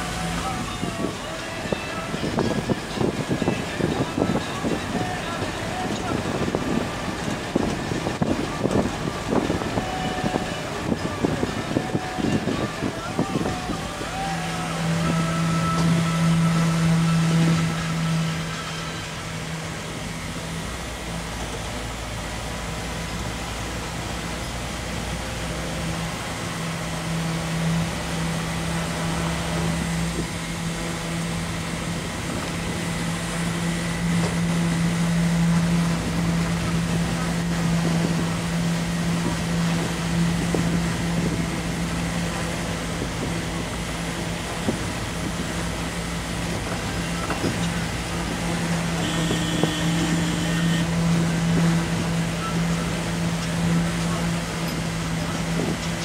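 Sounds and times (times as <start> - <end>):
road noise: 0.0 - 56.0
vehicle engine hum: 0.0 - 56.0.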